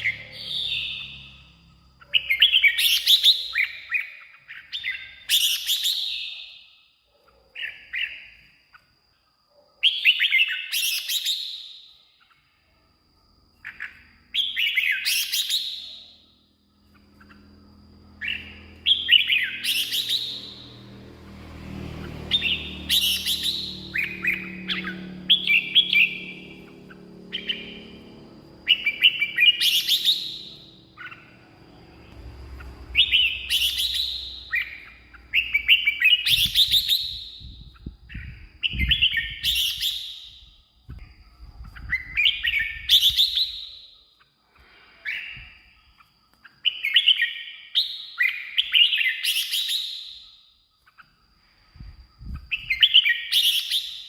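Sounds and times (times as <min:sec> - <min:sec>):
bird singing whistled notes: 0:00.0 - 0:06.9, 0:09.8 - 0:12.4, 0:13.6 - 0:21.1, 0:21.8 - 0:44.2, 0:44.9 - 0:54.0.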